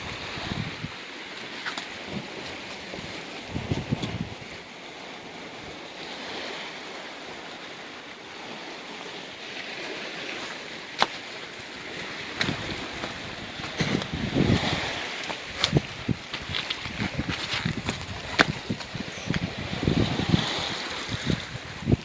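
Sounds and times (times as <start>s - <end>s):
ocean waves on rocky shore: 0.0s - 22.0s
wind: 0.0s - 22.0s.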